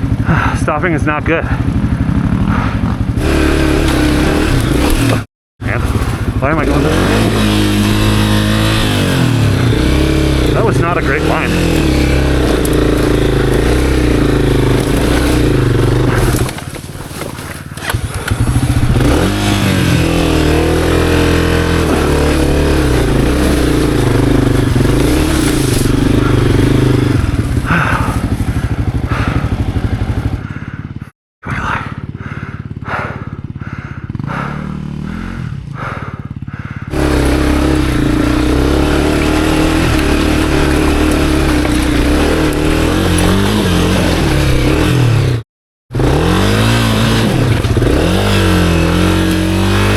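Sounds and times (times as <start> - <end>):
dirt bike engine revving: 0.0 - 31.1, 31.8 - 49.9.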